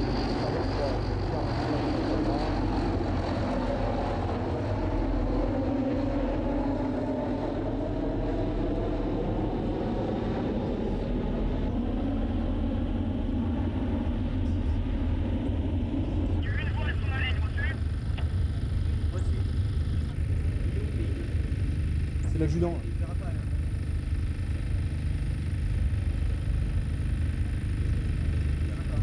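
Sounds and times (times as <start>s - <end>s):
turboprop engines droning overhead: 0.0s - 29.0s.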